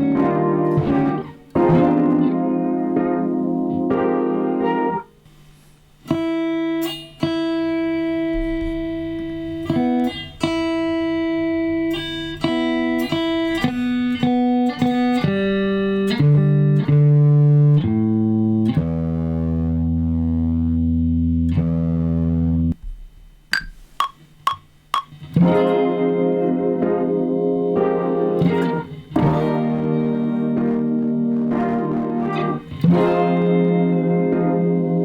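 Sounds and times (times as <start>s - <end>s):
slow instrumental melody: 0.0s - 20.7s, 22.7s - 35.0s.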